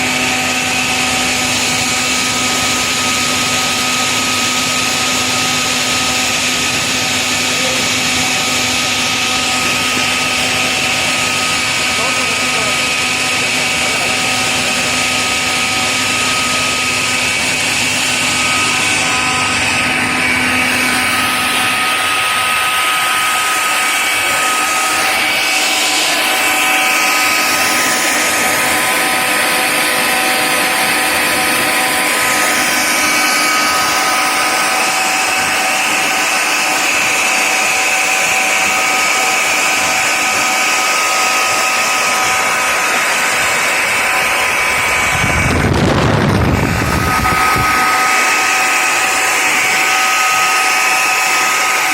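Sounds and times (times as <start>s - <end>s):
air compressor running: 0.0s - 51.9s.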